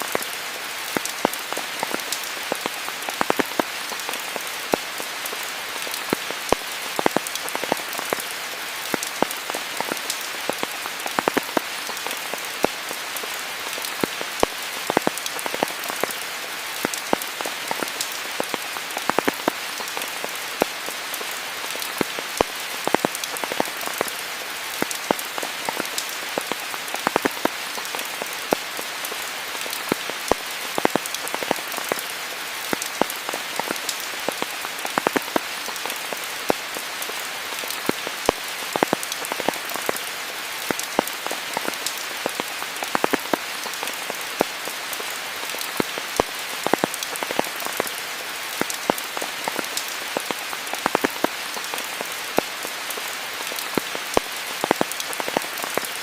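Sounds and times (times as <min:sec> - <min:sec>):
rain hiss: 0:00.0 - 0:56.0
raindrops striking: 0:00.0 - 0:56.0.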